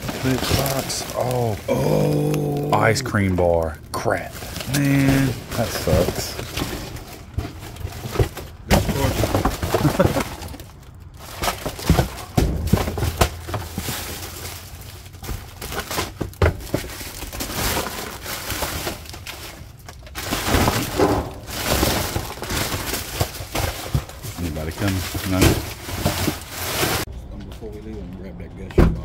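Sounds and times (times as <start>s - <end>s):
boxes and packaging clattering: 0.0s - 27.1s.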